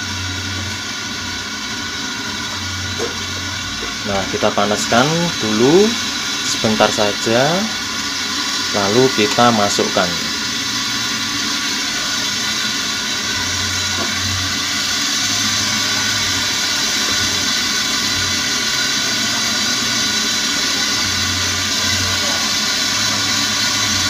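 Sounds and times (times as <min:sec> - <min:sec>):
oil sizzling in a wok: 0:00.0 - 0:24.0.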